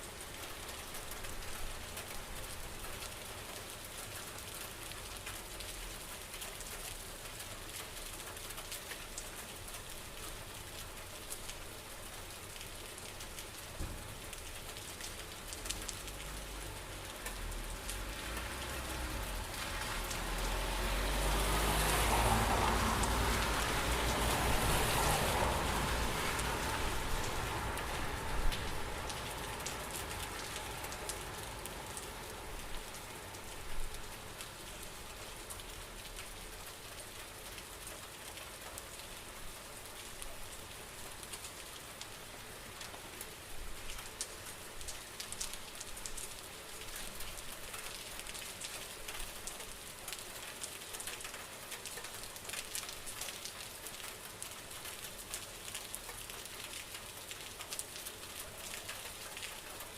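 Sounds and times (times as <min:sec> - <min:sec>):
rain drops ticking on surface: 0:00.0 - 0:59.9
rain hiss: 0:00.0 - 0:59.9.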